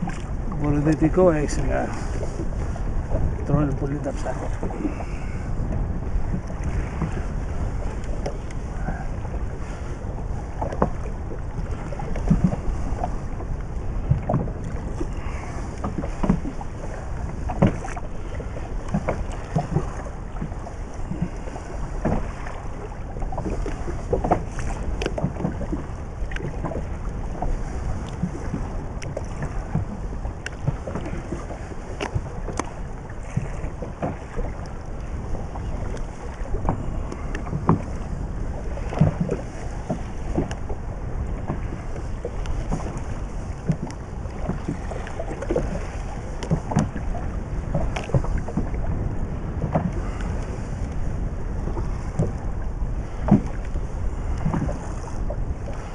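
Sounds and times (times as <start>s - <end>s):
water slapping boat hull: 0.0s - 55.9s
wind buffeting microphone: 0.0s - 55.9s.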